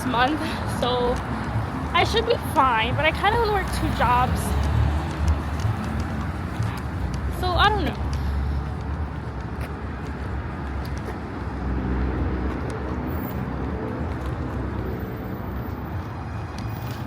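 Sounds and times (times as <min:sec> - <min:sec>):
low rumble of cars: 0:00.0 - 0:17.0
vehicle engine: 0:00.0 - 0:17.0.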